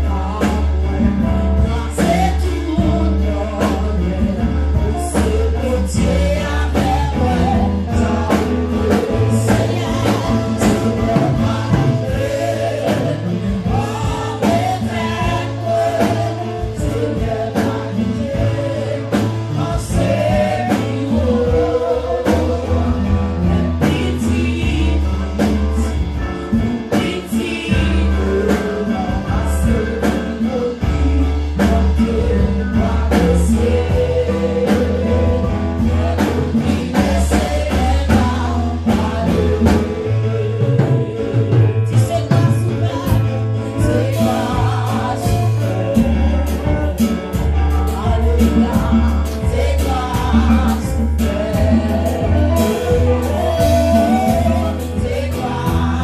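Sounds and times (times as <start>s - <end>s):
congregation singing: 0.0s - 56.0s
instrumental accompaniment with bass: 0.0s - 56.0s
lead singers on microphones: 0.0s - 56.0s
percussive beats: 0.3s - 56.0s.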